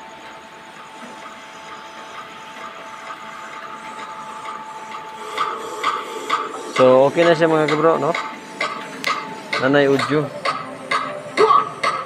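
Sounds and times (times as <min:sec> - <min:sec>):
amplifier hiss and whine: 0:00.0 - 0:12.0.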